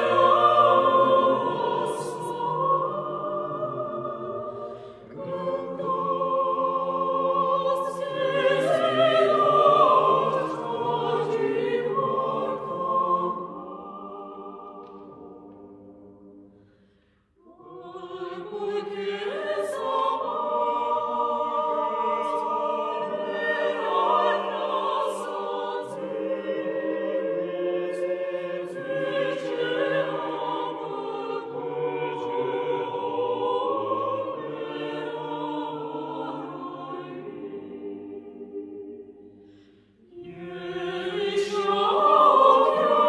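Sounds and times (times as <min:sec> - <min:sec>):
mixed choir singing: 0:00.0 - 0:16.8, 0:17.4 - 0:43.0.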